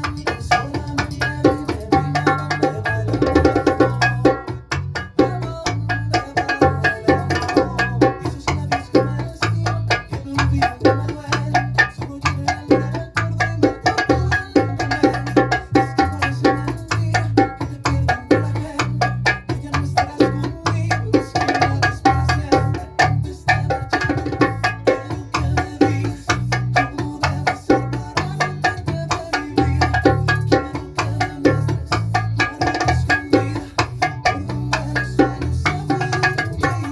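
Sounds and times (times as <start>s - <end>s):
bachata song playing: 0.0s - 36.9s
bongo drum strokes: 0.0s - 36.9s.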